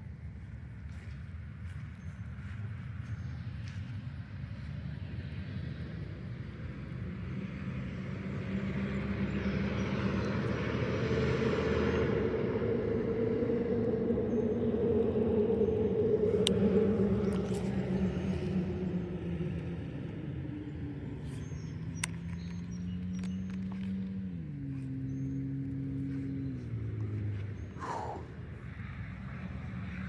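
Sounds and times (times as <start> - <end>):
golf cart motor hum and rumble: 0.0 - 30.0.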